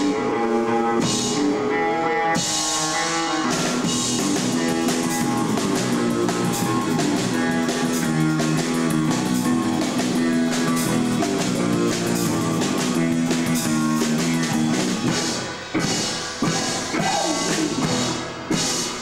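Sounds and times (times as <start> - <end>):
drum kit: 0.0 - 19.0
electric guitar chords: 0.0 - 19.0.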